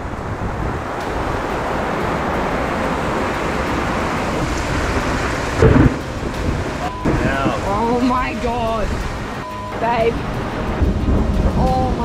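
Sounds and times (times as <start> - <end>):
torrential rain: 0.0 - 12.0.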